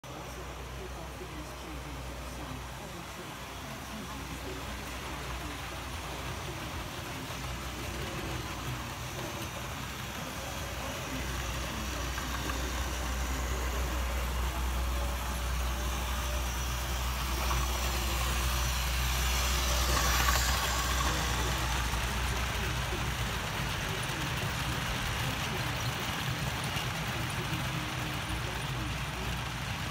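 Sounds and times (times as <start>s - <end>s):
diesel locomotive running past: 0.0s - 29.9s
steady mechanical hum: 0.0s - 29.9s.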